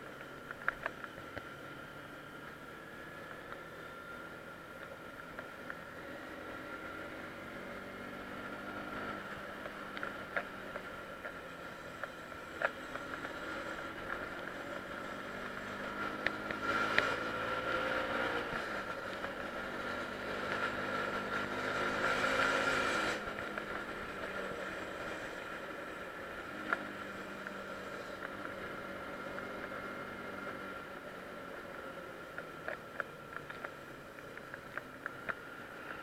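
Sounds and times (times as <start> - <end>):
motorcycle engine revving: 1.2 - 33.6.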